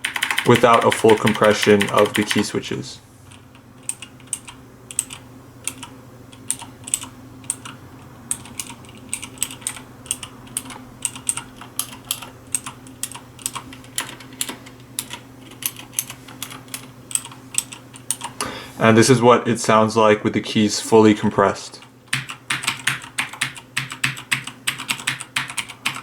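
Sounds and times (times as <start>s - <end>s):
mechanical keyboard clicking: 0.0s - 2.5s, 3.3s - 18.4s, 22.1s - 26.0s.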